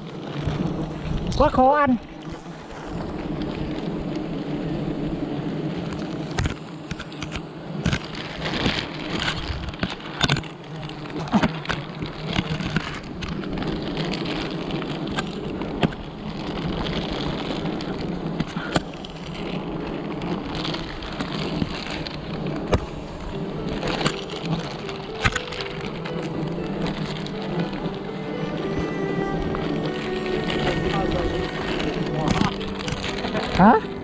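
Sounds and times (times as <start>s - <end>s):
bees buzzing: 0.0s - 34.0s
plastic bag crinkling: 0.0s - 34.0s.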